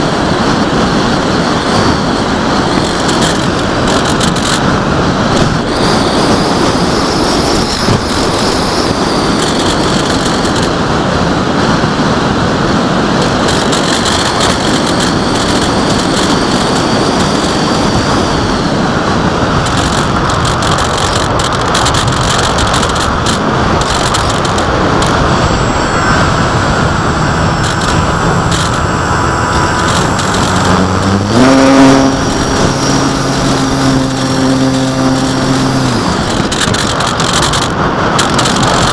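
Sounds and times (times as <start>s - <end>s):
engine speeding up: 0.0s - 38.9s
wind buffeting microphone: 0.0s - 38.9s.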